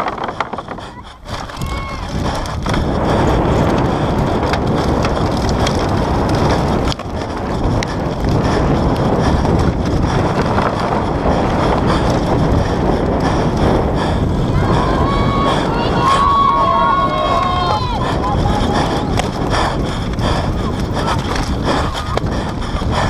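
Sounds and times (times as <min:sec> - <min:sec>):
bike tyres rumbling over dirt: 0:00.0 - 0:23.0
wind rushing over microphone: 0:00.0 - 0:23.0.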